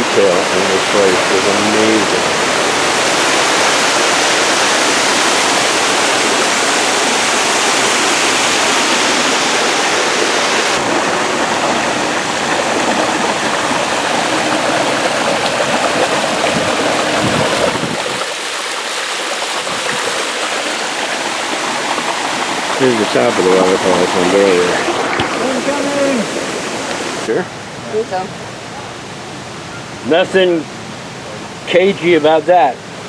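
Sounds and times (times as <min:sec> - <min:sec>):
water pouring down waterfall: 0:00.0 - 0:27.9, 0:30.0 - 0:33.0.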